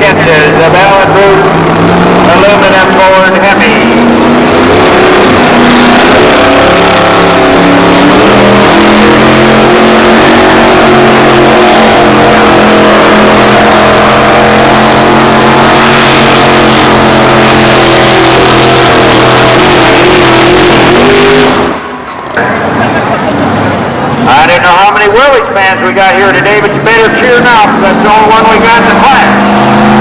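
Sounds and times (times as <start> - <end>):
loud engine running flat out: 0.0 - 30.0.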